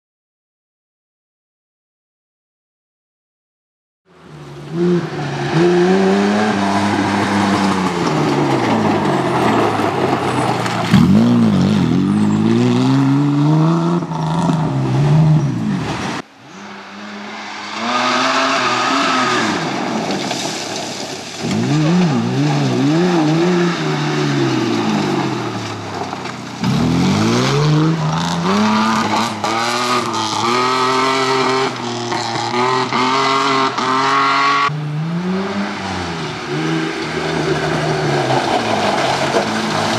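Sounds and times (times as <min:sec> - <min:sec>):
rally car engine revving: 0:04.2 - 0:39.9
tyres on gravel: 0:04.3 - 0:39.9.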